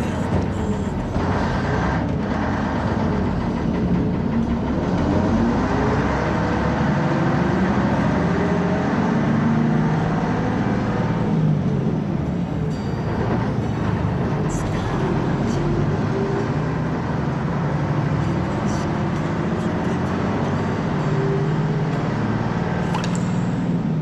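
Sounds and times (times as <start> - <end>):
large vehicle engine running: 0.0 - 24.0.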